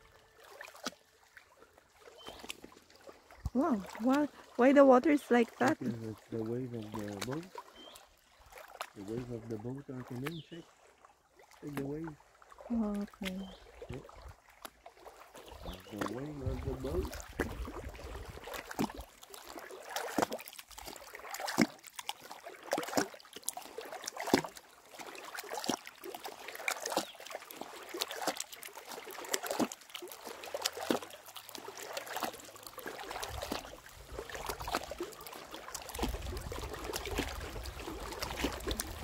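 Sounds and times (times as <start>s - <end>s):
water slapping boat hull: 0.0s - 39.0s.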